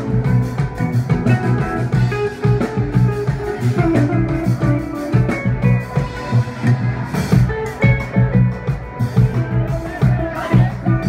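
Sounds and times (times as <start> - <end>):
live funk band playing: 0.0 - 11.0.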